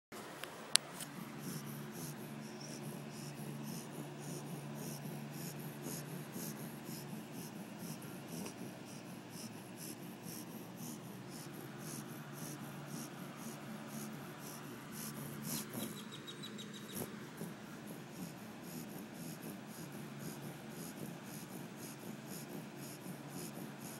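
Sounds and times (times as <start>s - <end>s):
steady low hum: 0.2s - 23.9s
dog snoring: 1.0s - 23.9s.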